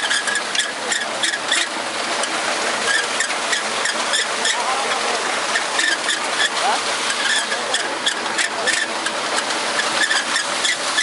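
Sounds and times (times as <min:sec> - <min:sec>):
harvester clattering: 0:00.0 - 0:11.0.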